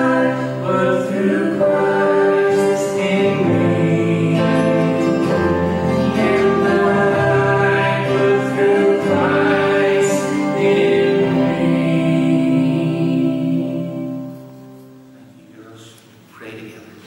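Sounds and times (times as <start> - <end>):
man and women singing a hymn: 0.0 - 15.0
acoustic guitar: 0.0 - 15.4
digital piano: 0.0 - 15.8.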